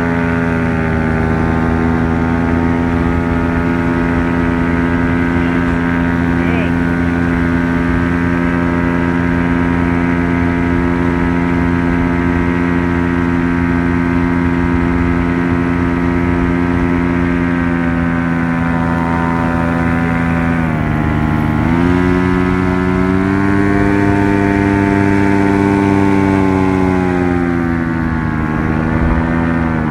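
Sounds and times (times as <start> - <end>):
light aircraft engine droning: 0.0 - 29.9.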